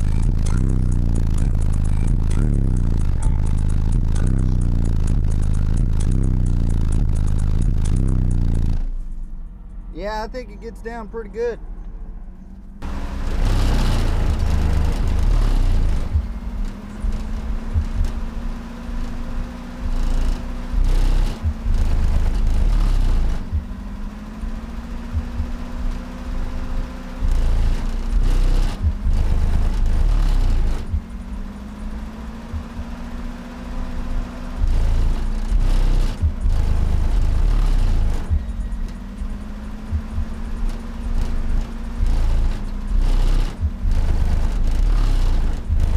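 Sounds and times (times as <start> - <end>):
subwoofers playing deep bass: 0.0 - 11.6, 12.3 - 45.9.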